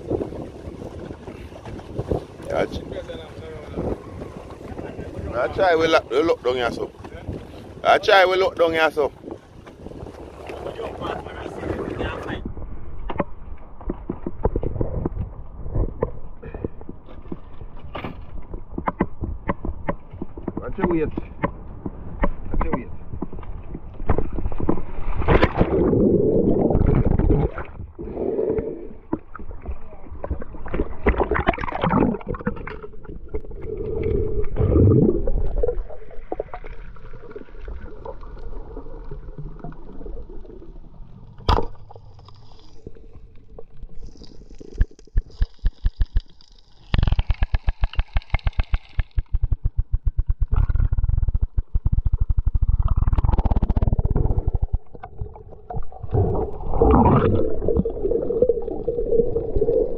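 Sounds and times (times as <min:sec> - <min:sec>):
water sloshing and gurgling: 0:00.0 - 0:59.9.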